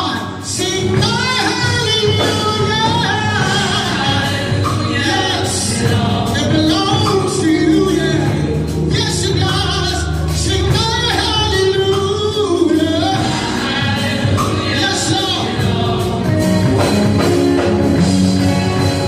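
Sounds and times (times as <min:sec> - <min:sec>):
gospel singing with instruments: 0:00.0 - 0:19.0.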